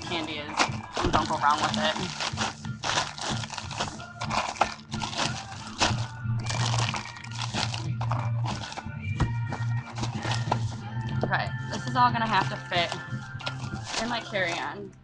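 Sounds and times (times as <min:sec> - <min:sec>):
plastic bag crinkling: 0:00.0 - 0:08.8, 0:09.9 - 0:10.8, 0:11.8 - 0:14.8
background music: 0:00.0 - 0:15.0.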